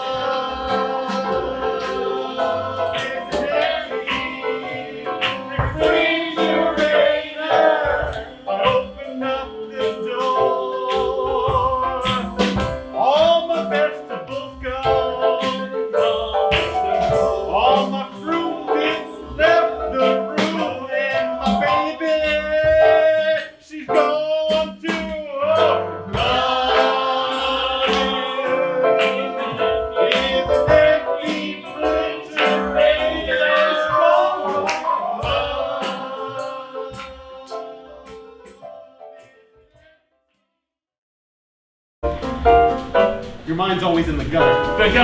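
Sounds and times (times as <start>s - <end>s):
person singing: 0.0s - 38.3s
instrumental accompaniment with beat: 0.0s - 39.4s, 42.0s - 45.0s.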